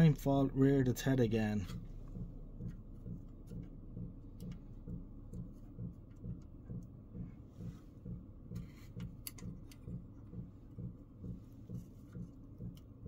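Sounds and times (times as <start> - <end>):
steady low ticking: 0.0 - 13.0.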